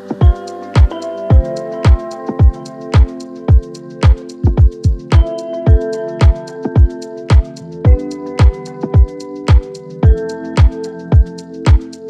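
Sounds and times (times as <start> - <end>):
held chords: 0.0 - 12.0
low drum beat: 0.2 - 11.3.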